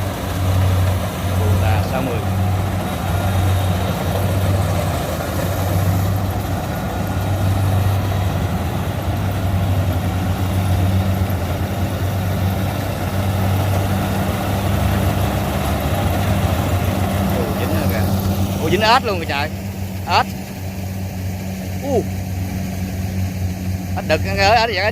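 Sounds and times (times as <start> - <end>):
diesel engine humming: 0.0 - 24.9.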